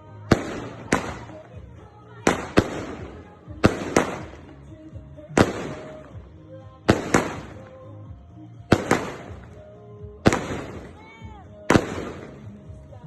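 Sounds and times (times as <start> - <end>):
fireworks banging: 0.0 - 7.9, 8.7 - 13.0.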